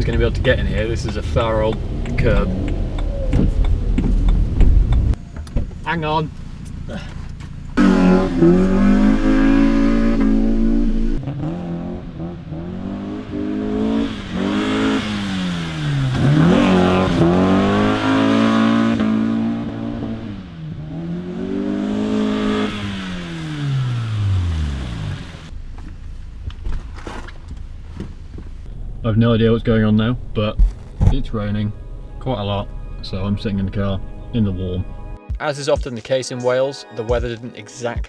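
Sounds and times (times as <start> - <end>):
car engine revving: 0.0 - 5.2, 6.0 - 25.5, 28.7 - 35.2.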